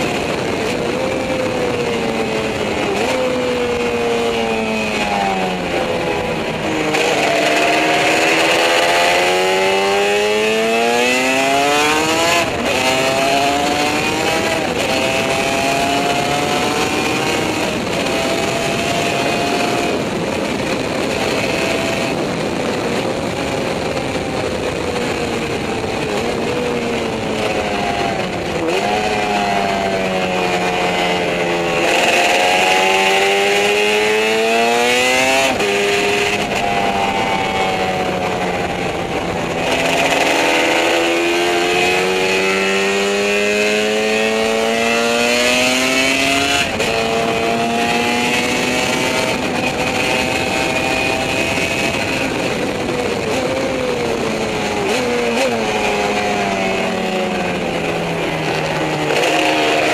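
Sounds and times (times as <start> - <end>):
racing motorcycle engine: 0.0 - 59.9
wind rush on microphone: 0.0 - 59.9.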